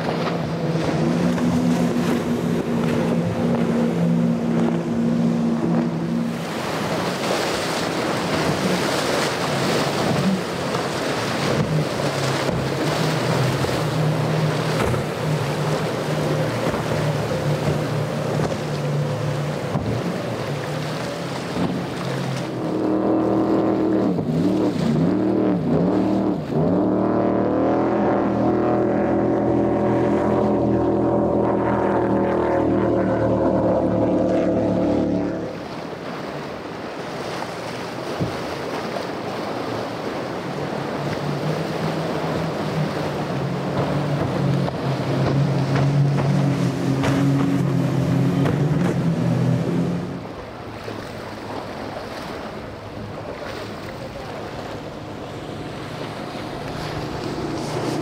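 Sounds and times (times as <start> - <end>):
boat engine drone: 0.0 - 58.0.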